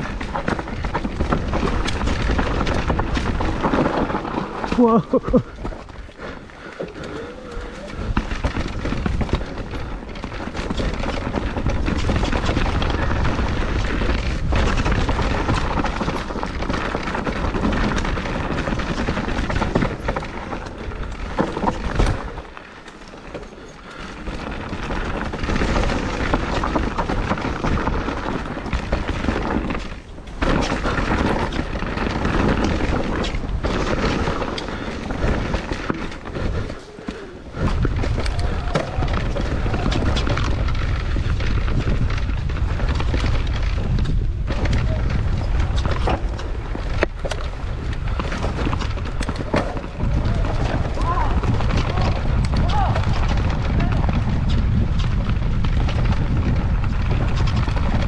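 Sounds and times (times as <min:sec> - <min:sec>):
bike knocks and rattles: 0:00.0 - 0:58.0
bike tyre noise: 0:00.0 - 0:58.0
wind buffeting microphone: 0:00.0 - 0:58.0.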